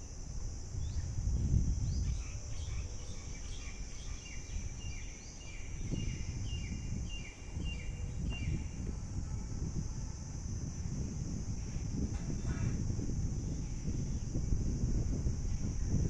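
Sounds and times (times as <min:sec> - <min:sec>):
high insect drone: 0:00.0 - 0:16.0
wind rumble on microphone: 0:00.0 - 0:16.0.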